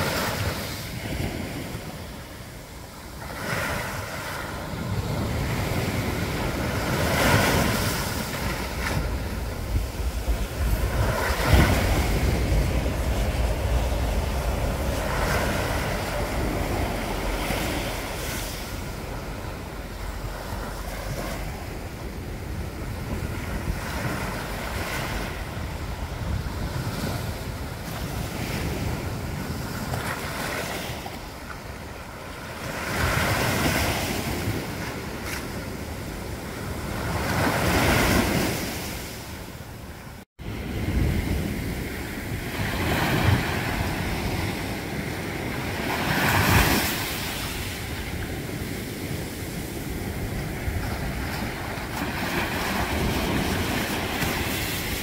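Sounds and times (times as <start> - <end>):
sea waves washing against rocks: 0.0 - 39.6, 40.4 - 55.0
wind rumbling on microphone: 0.0 - 55.0.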